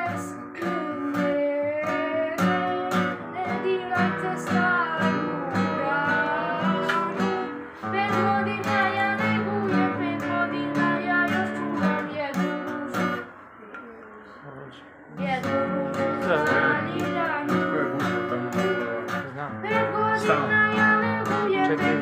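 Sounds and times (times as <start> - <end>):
boy singing: 0.0 - 14.2, 15.2 - 22.0
acoustic guitar strumming: 0.0 - 22.0.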